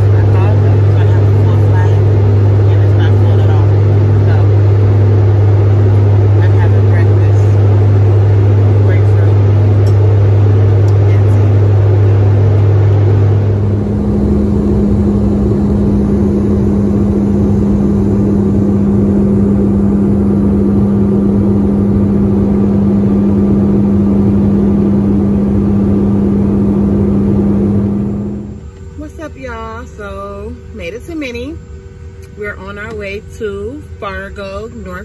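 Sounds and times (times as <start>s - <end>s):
jet engine hum: 0.0s - 35.0s
rushing airflow: 0.1s - 28.7s.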